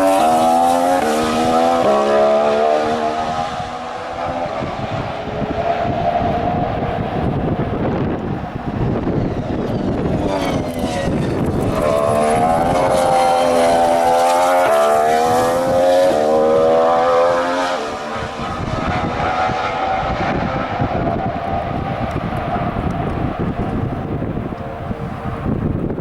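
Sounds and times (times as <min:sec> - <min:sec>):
race car engine accelerating past: 0:00.0 - 0:25.6.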